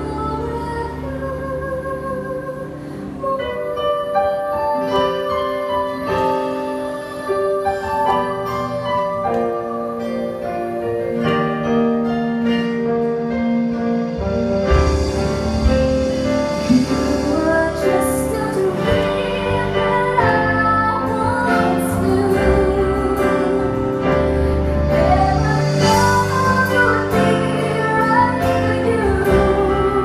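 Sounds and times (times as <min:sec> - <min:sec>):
slow piano ballad: 0:00.0 - 0:30.0.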